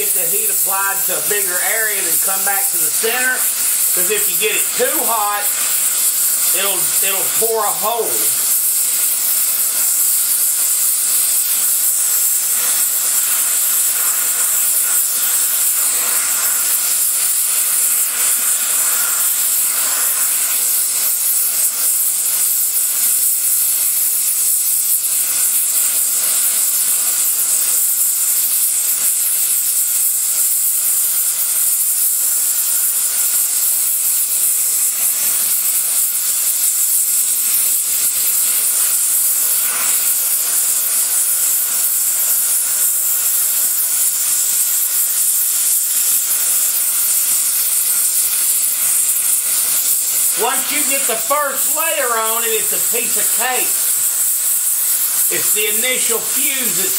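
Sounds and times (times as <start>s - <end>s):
welding torch flame hissing: 0.0s - 56.9s.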